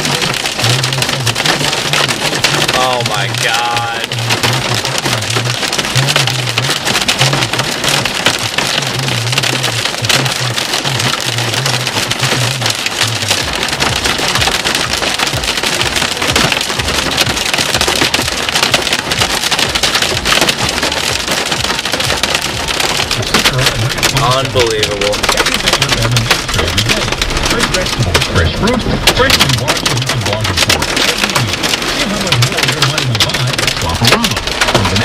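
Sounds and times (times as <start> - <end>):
hail and rain drumming on car: 0.0 - 35.0.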